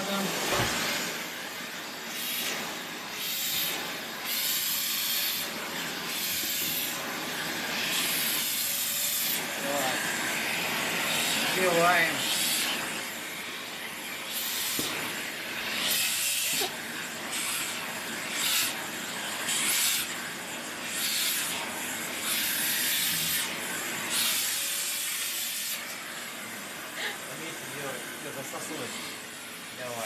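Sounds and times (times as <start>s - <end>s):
vacuum cleaner suction hiss: 0.0s - 30.0s.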